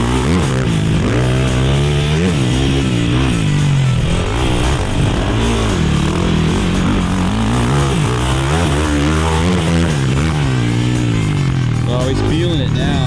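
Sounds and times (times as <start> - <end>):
background music: 0.0 - 13.0
quad engine revving: 0.0 - 13.0.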